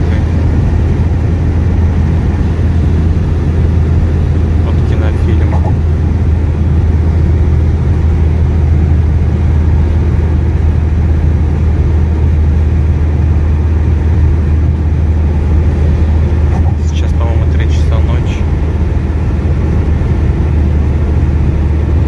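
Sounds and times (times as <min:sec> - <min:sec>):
car interior road drone: 0:00.0 - 0:22.0.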